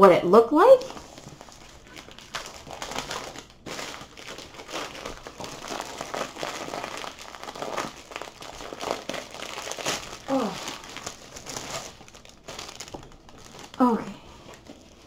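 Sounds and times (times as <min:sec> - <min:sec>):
plastic wrapping crinkling: 0:00.6 - 0:15.0.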